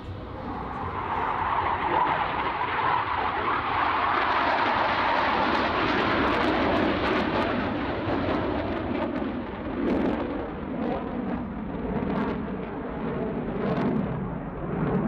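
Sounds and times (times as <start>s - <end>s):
aircraft engine rumble: 0.0s - 15.0s.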